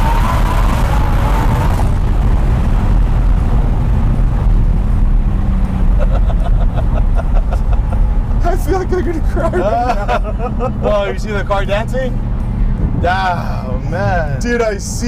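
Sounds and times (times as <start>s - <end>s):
low rumble of engine and road: 0.0s - 15.0s
turbo and engine whine: 0.0s - 15.0s.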